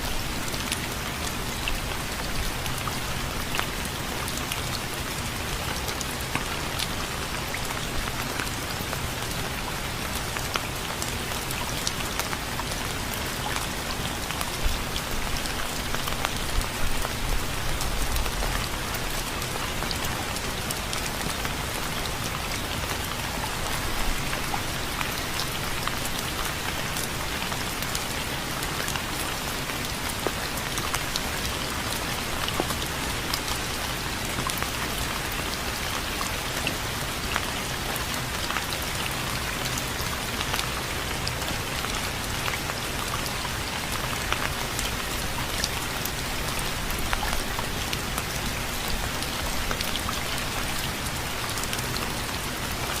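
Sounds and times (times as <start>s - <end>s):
rain drops pattering: 0.0s - 53.0s.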